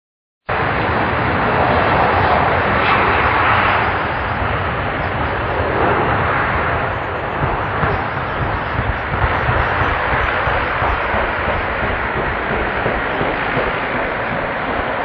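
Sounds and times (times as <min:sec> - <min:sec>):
jet engine rushing: 0:00.5 - 0:15.0.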